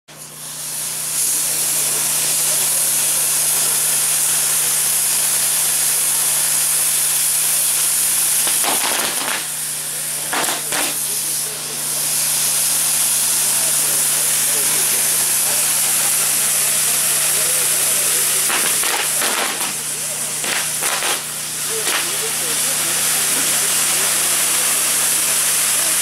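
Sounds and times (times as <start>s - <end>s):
fireworks hissing: 0.1s - 26.0s.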